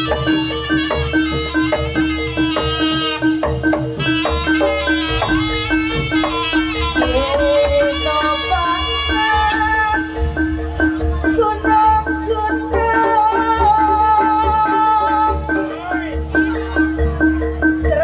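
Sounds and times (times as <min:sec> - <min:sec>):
drums: 0:00.0 - 0:18.0
metal-keyed percussion pattern: 0:00.0 - 0:18.0.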